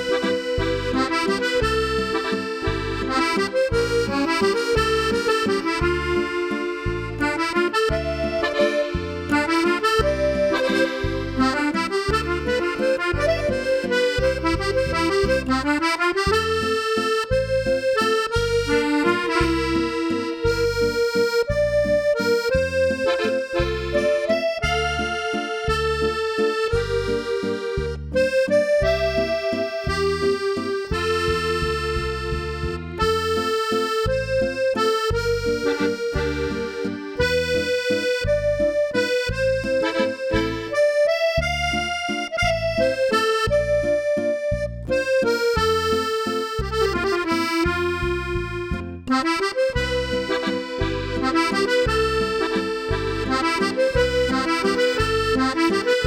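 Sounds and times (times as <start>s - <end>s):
accordion waltz: 0.0s - 56.0s.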